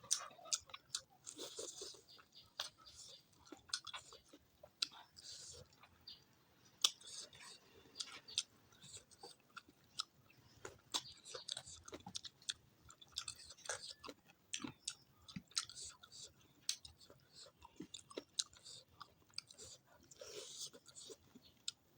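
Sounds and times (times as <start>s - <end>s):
wet chewing and mouth sounds: 0.0s - 6.2s, 6.8s - 21.8s.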